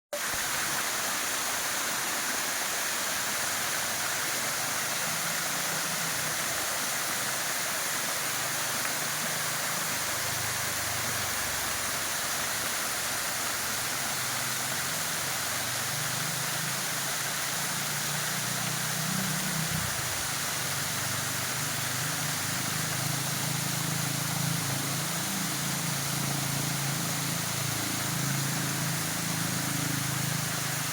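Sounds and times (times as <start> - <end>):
waterfall rushing: 0.2 - 30.9.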